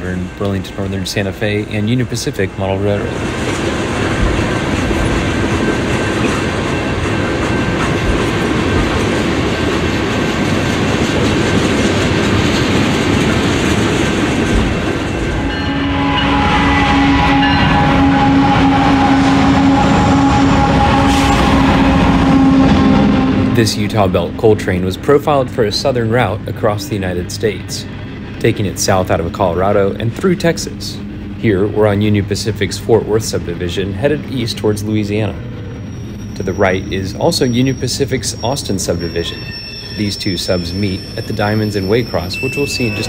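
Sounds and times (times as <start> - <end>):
droning locomotive tones: 0.0 - 43.0.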